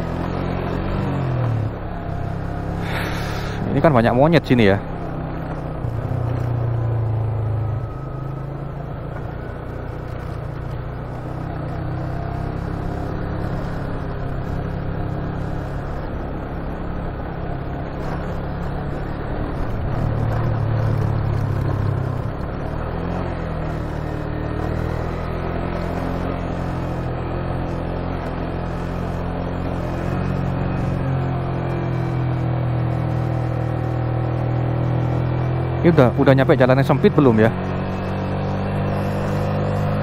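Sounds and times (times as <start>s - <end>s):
motorcycle engine low rumble: 0.0s - 40.0s.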